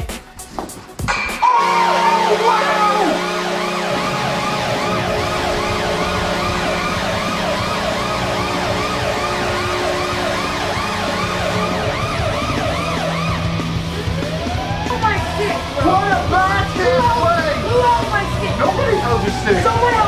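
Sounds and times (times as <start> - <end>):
fast yelping siren: 1.4 - 20.0
steady low tone: 1.8 - 20.0.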